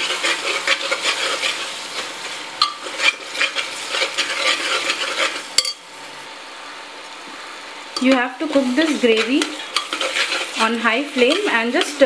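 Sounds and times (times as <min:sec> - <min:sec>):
metal spatula scraping: 0:00.0 - 0:05.8, 0:08.0 - 0:12.0
masala sizzling in a pot: 0:00.0 - 0:12.0.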